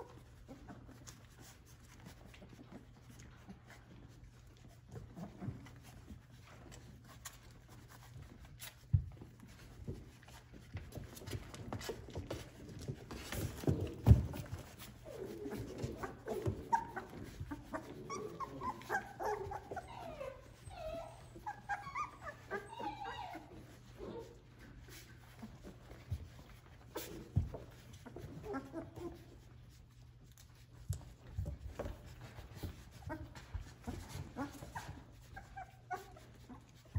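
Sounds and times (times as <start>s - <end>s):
puppies whining and whimpering: 0.0s - 36.9s.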